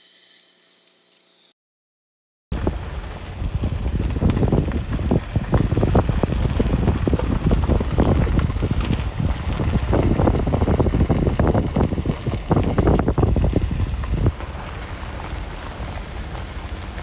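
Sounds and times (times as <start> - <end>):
wind blowing across microphone: 2.5 - 17.0.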